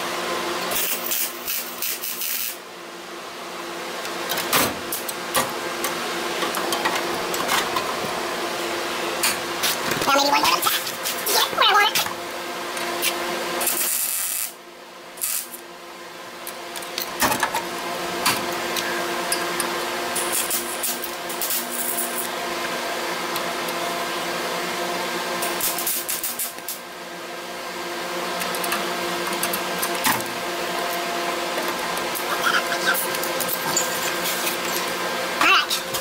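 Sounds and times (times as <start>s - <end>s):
welding arc crackling buzz: 0.0s - 2.7s, 4.0s - 27.0s, 27.7s - 36.0s.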